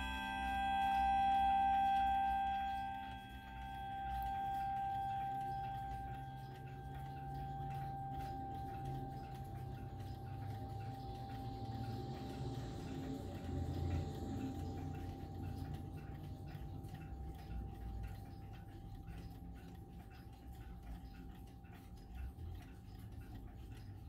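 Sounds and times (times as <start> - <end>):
clock chime rods ringing: 0.0 - 24.0
clock ticking: 0.0 - 24.0.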